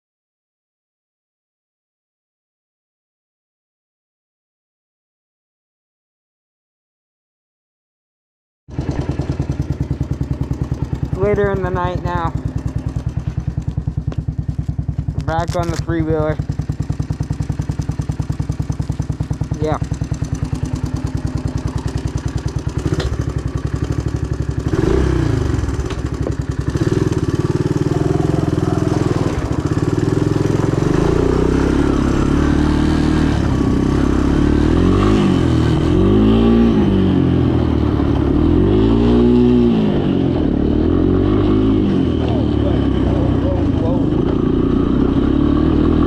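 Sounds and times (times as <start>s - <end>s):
atv engine idling and revving: 8.7s - 46.0s.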